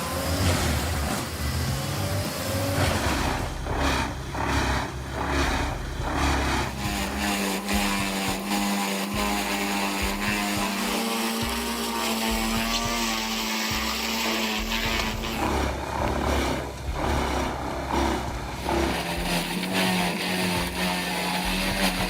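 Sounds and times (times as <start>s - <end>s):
machine engine running: 0.0s - 22.0s.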